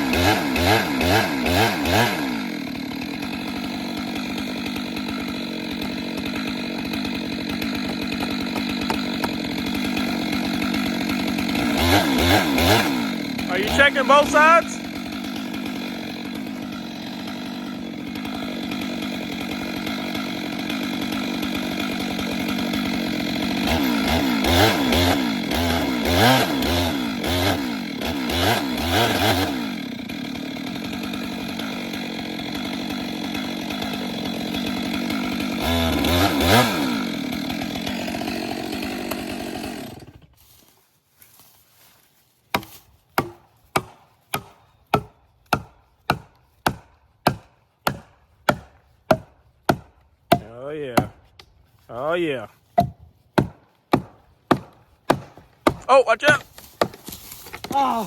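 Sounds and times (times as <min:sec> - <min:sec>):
chainsaw cutting tree trunk: 0:00.0 - 0:58.0.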